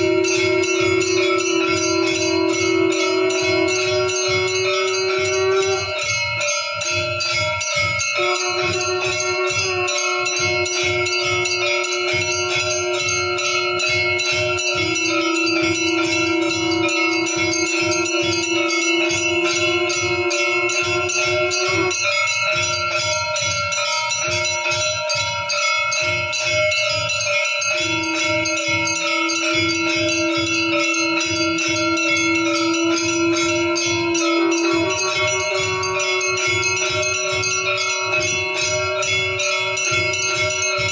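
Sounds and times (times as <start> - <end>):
bells and metal gongs struck rapidly: 0.0 - 40.9
steady held tone: 0.0 - 40.9.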